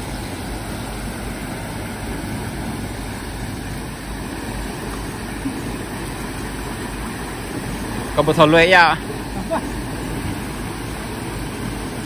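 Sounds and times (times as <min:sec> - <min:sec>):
turbulent water rushing: 0:00.0 - 0:12.0.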